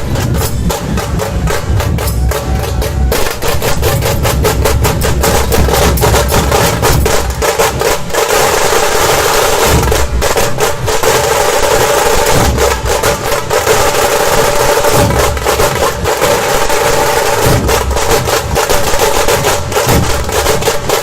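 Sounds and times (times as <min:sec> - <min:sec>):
deep drum beats: 0:00.0 - 0:21.0
fast snare drum rolls: 0:00.0 - 0:21.0.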